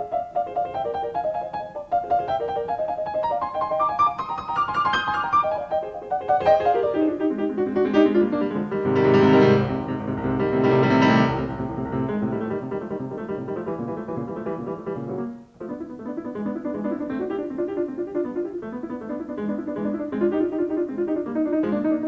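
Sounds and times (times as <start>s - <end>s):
solo piano classical music: 0.0s - 22.0s.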